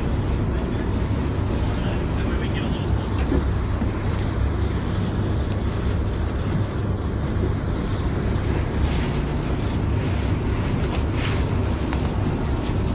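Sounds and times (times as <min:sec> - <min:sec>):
boat engine rumbling: 0:00.0 - 0:12.9.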